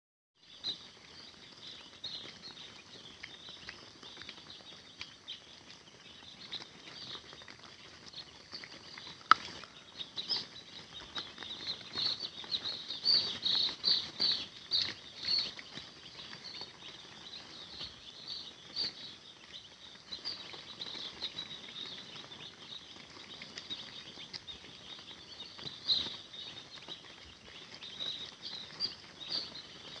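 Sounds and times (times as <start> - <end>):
chicks peeping: 0.4 - 30.0.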